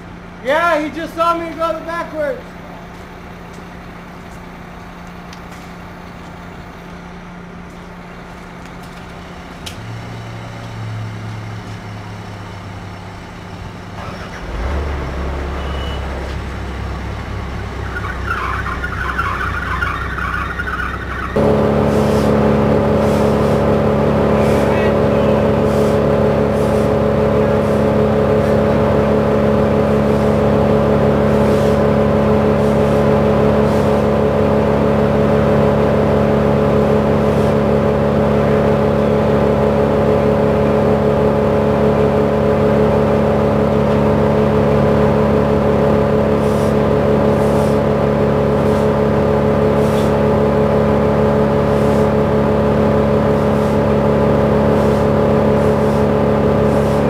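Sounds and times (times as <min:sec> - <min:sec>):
crane engine running: 0:00.0 - 0:57.0.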